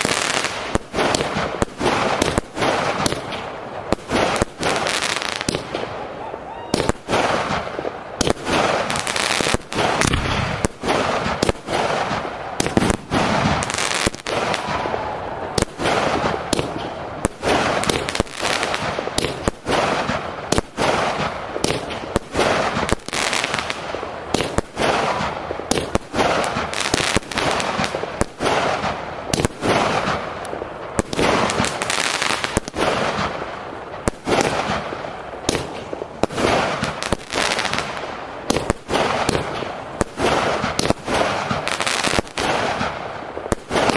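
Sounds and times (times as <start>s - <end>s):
fireworks crackling: 0.0s - 43.9s.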